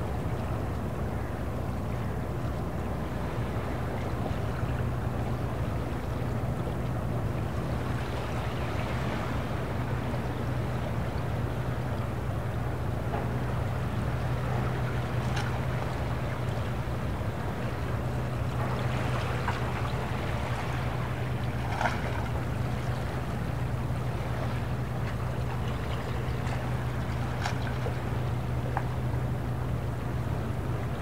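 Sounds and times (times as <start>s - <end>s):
boat engine humming: 0.0s - 31.0s.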